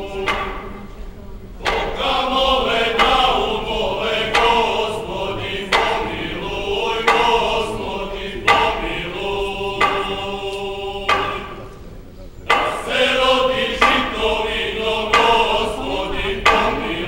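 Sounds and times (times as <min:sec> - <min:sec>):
group singing folk song: 0:00.0 - 0:17.0.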